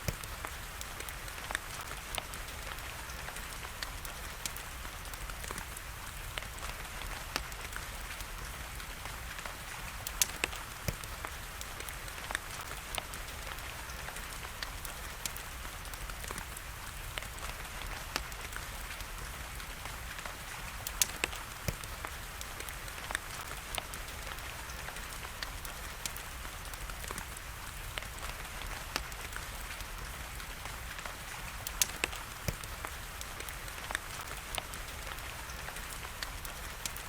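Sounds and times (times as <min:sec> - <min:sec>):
rain hiss: 0:00.0 - 0:37.0
wood fire crackling and popping: 0:00.0 - 0:37.0.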